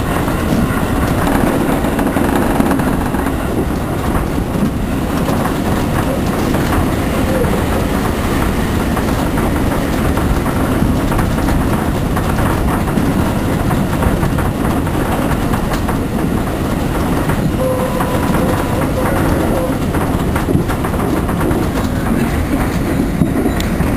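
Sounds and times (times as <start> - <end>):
sliding doors rattling: 0.0 - 23.9
train interior rumble: 0.0 - 23.9
wheels clattering: 0.0 - 23.9.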